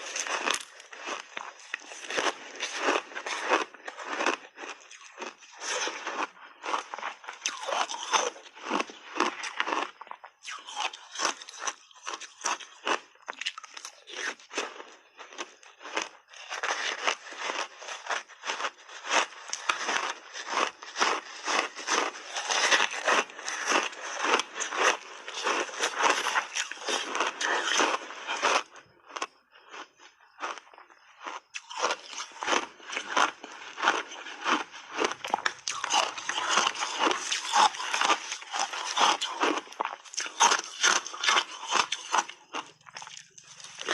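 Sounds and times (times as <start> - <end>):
ice being chewed and crunched: 0.0 - 43.9.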